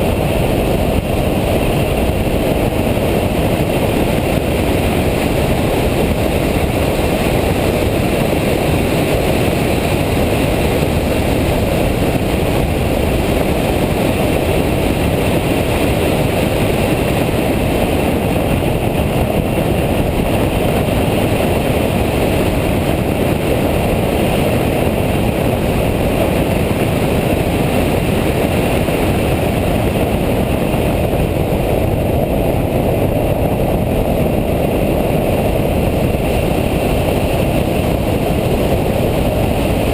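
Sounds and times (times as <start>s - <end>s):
car engine at speed: 0.0s - 39.9s
wind noise: 0.0s - 39.9s.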